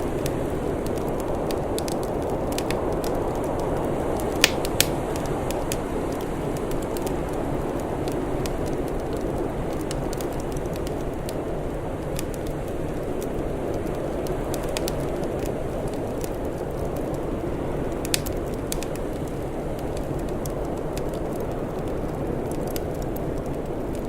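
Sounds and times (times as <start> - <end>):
fire pops: 0.0 - 24.0
wood fire crackling: 0.0 - 24.0.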